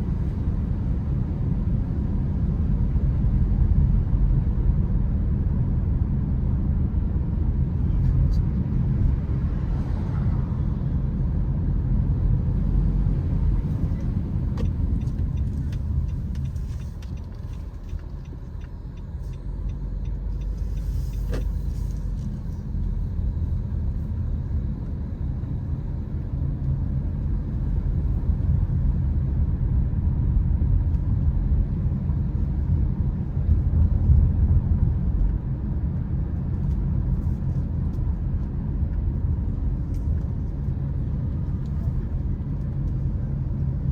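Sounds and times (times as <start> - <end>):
car engine rumble: 0.0 - 43.9
road noise: 0.0 - 43.9.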